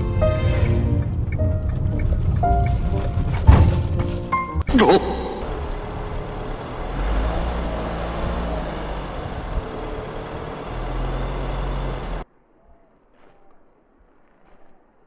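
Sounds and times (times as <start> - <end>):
road and wind noise: 0.0 - 12.2
vehicle engine rumbling: 0.0 - 12.2.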